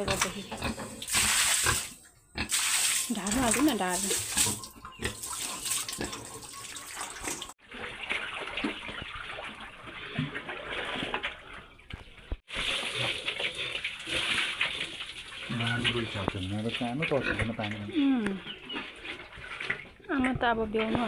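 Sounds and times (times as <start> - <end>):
water splashing on a pig: 0.1 - 11.6, 12.4 - 17.9.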